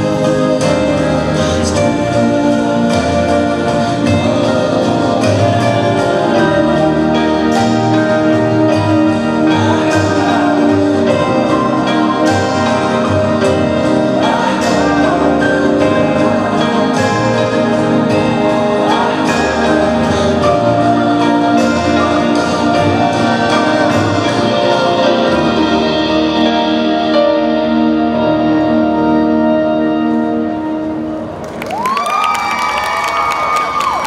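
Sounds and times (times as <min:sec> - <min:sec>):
song with singing voice: 0:00.0 - 0:31.4.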